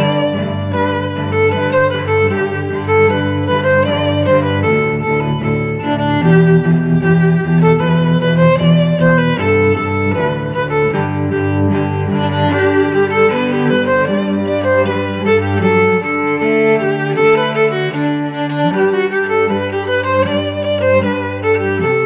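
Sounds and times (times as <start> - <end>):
bowed strings music: 0.0 - 22.0.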